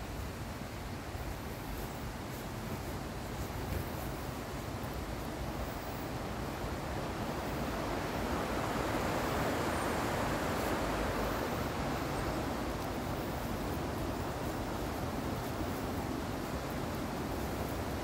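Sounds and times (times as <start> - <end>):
stream rushing over stones: 2.5 - 18.0.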